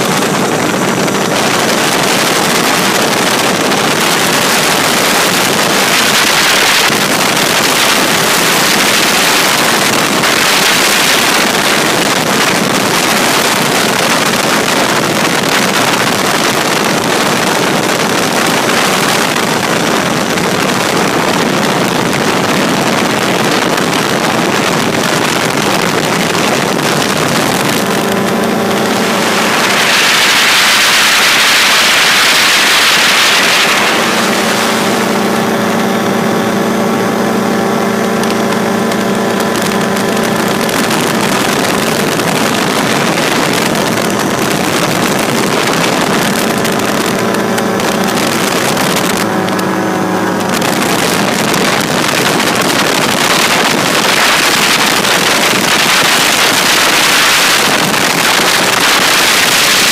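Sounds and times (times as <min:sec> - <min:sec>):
aircraft engine humming: 0:00.0 - 0:59.9
wind rush on microphone: 0:00.0 - 0:59.9.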